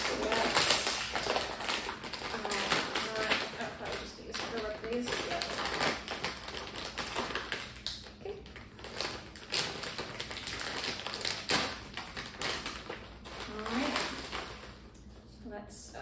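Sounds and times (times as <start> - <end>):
plastic snack bag crinkling: 0.0 - 14.9.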